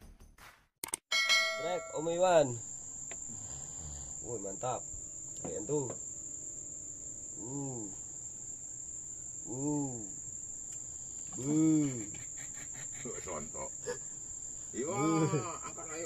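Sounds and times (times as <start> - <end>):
crickets droning: 1.3 - 16.0.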